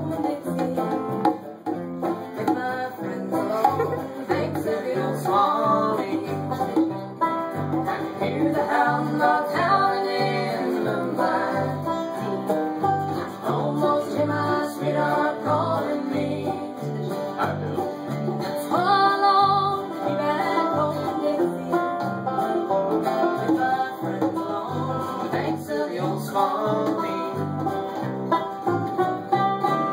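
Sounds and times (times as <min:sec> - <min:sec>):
acoustic guitar strumming: 0:00.0 - 0:29.9
banjo picking: 0:00.0 - 0:29.9.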